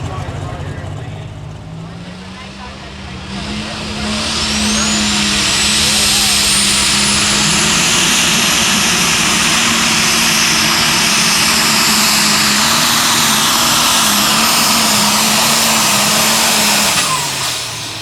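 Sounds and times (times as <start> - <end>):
high steady whine: 0.0 - 18.0
tractor engine running flat out: 0.0 - 18.0.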